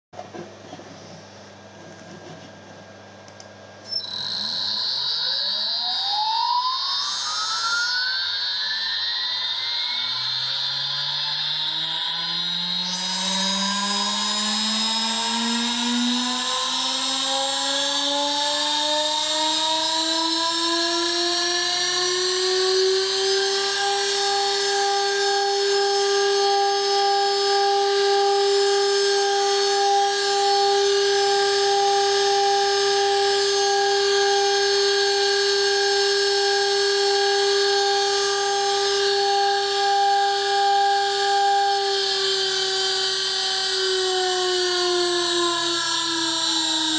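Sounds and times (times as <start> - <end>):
spindle motor whine rising: 0.3 - 46.9.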